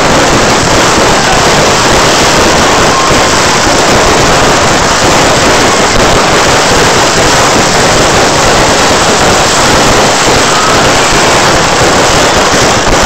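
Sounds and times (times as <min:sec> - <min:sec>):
fireworks roar: 0:00.0 - 0:13.0.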